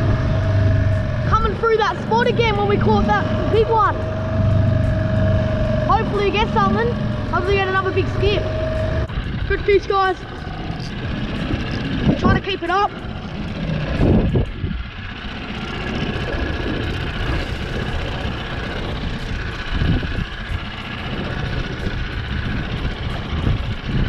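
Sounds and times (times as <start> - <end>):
small outboard motor running: 0.0 - 24.0
wind on microphone: 0.0 - 24.0.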